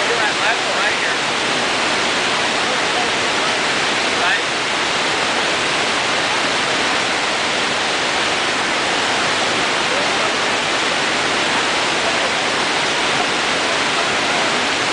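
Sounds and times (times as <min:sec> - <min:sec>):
whitewater pouring over a ledge: 0:00.0 - 0:14.9.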